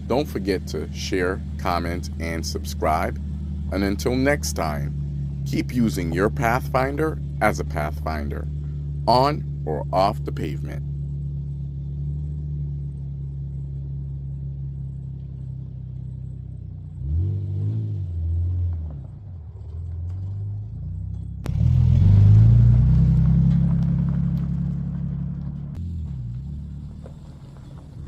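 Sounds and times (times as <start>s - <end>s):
car engine running while driving: 0.0s - 28.0s.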